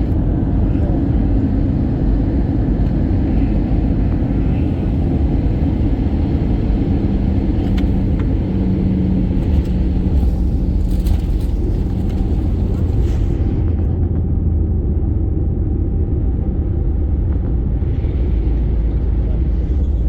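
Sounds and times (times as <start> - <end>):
airliner cabin engine rumble: 0.0 - 20.0
steady hum: 0.0 - 20.0.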